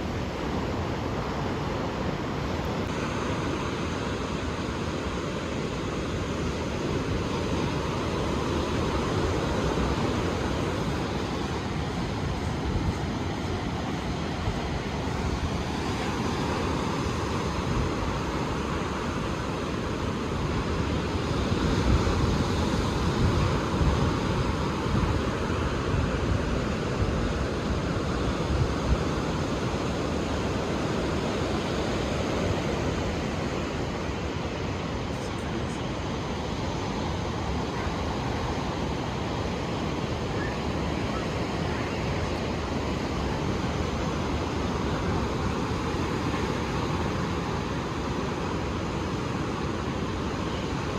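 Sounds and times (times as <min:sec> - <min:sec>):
waves washing onto shore: 0:00.0 - 0:50.9.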